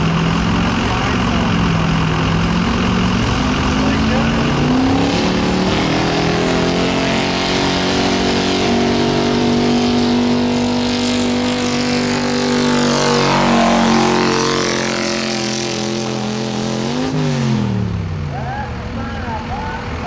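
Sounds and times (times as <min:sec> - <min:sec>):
truck engine running under load: 0:00.0 - 0:20.0.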